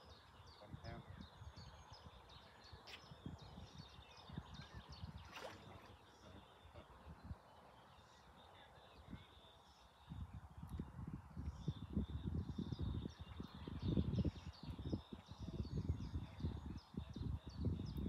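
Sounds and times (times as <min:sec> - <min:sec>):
distant birds chirping: 0:00.0 - 0:18.0.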